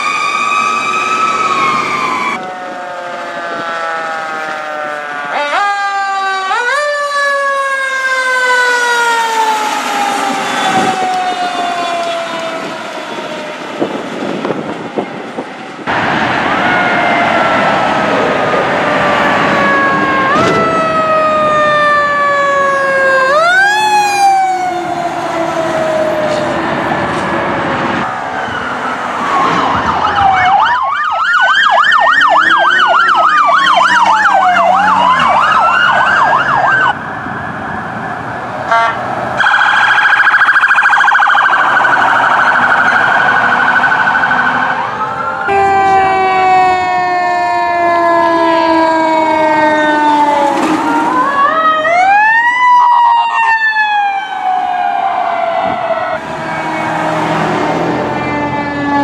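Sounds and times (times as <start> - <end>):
siren fast yelp: 0.0 - 14.0, 16.5 - 26.6, 28.0 - 37.6, 38.7 - 57.0
deep siren winding down: 0.0 - 59.0
rapidly warbling high siren: 0.0 - 59.0
siren slow wail: 0.0 - 59.0.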